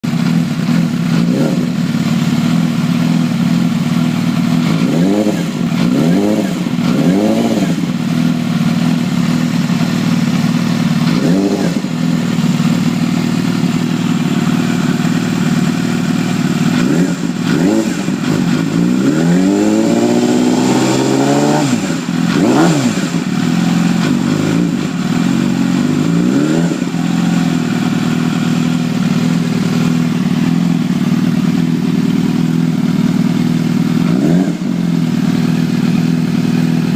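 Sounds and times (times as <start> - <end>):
engine whine: 0.0 - 36.9
engine revving: 0.2 - 3.0, 3.6 - 36.9.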